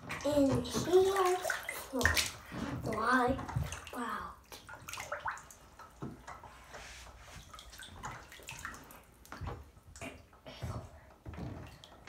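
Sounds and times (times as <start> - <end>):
bathwater lapping and dripping: 0.0 - 12.0
small water splashes: 0.0 - 12.0.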